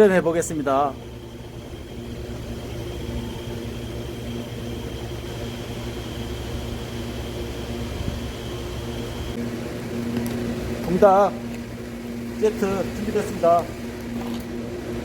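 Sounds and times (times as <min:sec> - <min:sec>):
mechanical hum: 0:00.0 - 0:15.0
thin high whine: 0:00.0 - 0:15.0.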